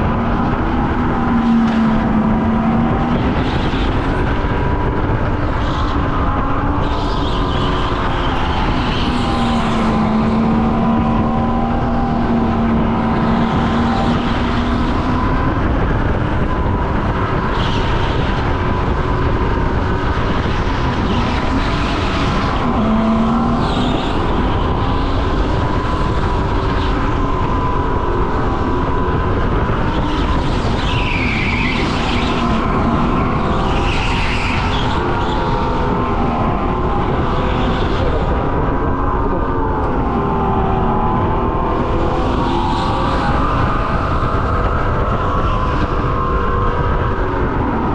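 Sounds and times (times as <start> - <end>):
go-kart motor: 0.0 - 47.9
wind rumble: 0.0 - 47.9.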